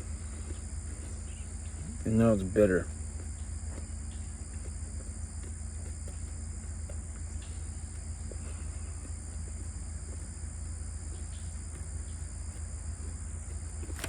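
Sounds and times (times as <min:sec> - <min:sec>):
insect chorus trilling: 0:00.0 - 0:14.0
low steady hum: 0:00.0 - 0:14.0.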